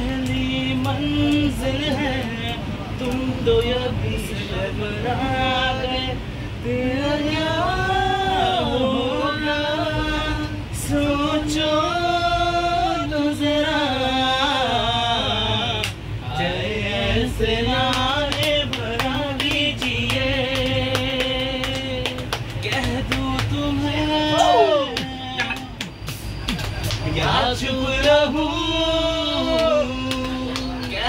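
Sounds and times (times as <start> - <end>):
group singing without instruments: 0.0 - 25.8, 27.1 - 31.0
low rumble of moving train: 0.0 - 31.0.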